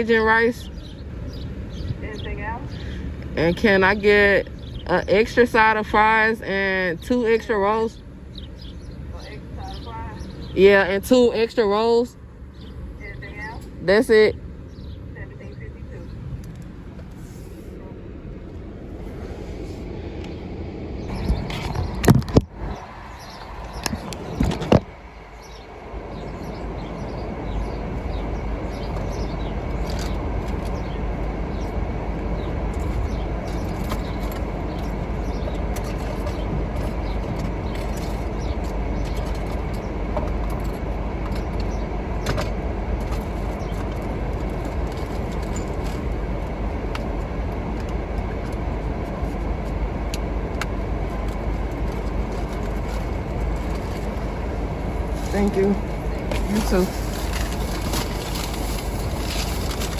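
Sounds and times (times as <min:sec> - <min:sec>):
car engine rumble from inside: 0:00.0 - 0:59.9.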